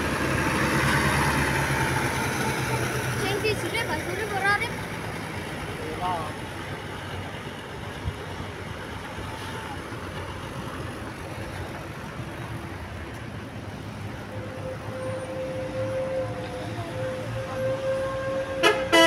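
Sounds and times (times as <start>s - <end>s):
heavy vehicle engines rumbling: 0.0s - 19.0s
roadside traffic: 0.0s - 19.0s.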